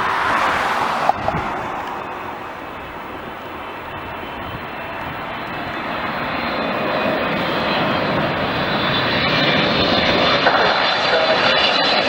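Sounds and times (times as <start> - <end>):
airliner engines roaring: 0.0 - 12.0.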